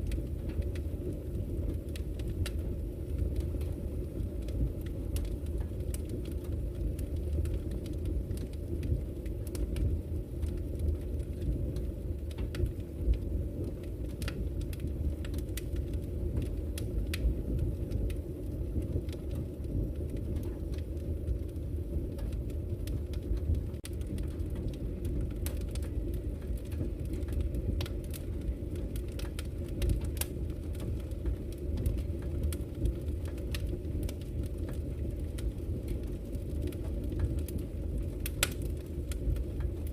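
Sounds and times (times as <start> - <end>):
low rumble of flames: 0.0 - 39.9
wood crackling and popping: 0.0 - 39.9.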